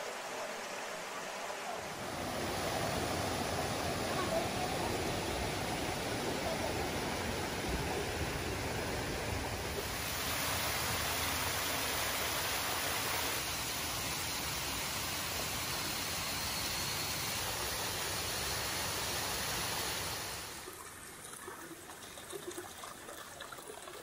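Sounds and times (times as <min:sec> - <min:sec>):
stream and small waterfall rushing: 0:00.0 - 0:21.0.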